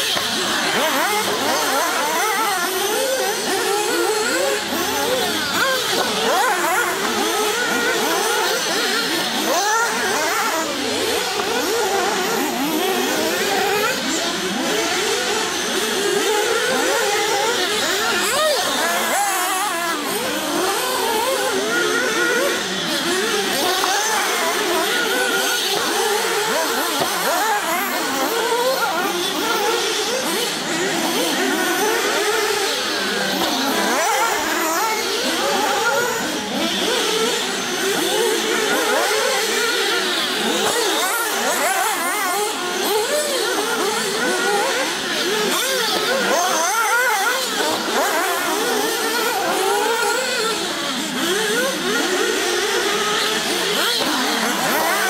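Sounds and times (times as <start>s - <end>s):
rc car engines revving: 0.0s - 55.0s.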